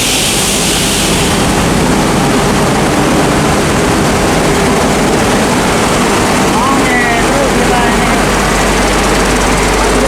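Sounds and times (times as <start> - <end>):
diesel engines droning: 0.0 - 10.0.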